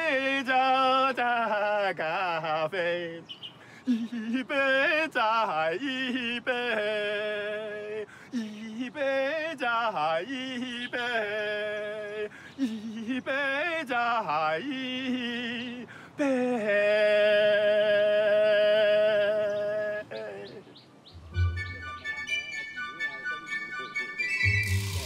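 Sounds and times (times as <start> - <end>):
man singing with vibrato: 0.0 - 21.5.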